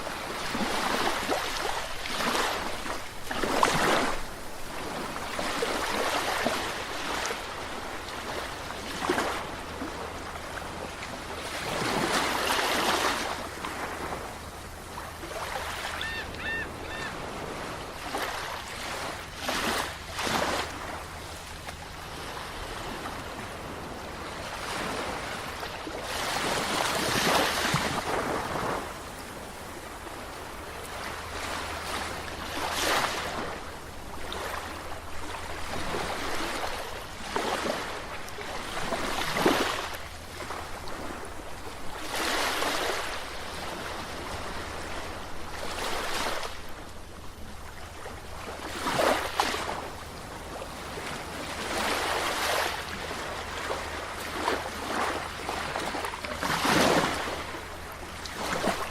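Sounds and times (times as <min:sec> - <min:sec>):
waves washing on shore: 0:00.0 - 0:58.9.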